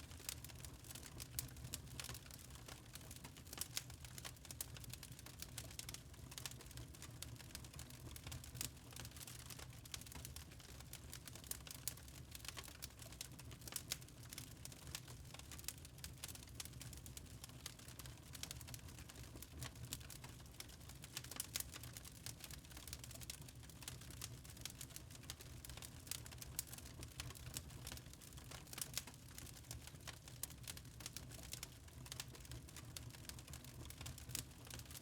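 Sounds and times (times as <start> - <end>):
fire crackling and popping: 0.0 - 35.0
low rumble of flames: 0.1 - 35.0.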